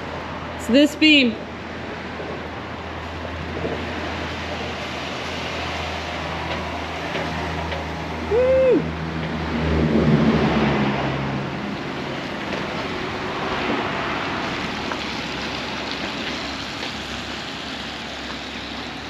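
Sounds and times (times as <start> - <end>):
engine humming: 0.0 - 19.0
road noise: 0.0 - 19.0.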